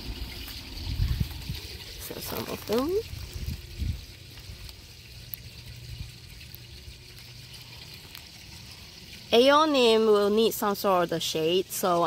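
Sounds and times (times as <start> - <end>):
water trickling in pond: 0.0 - 12.0.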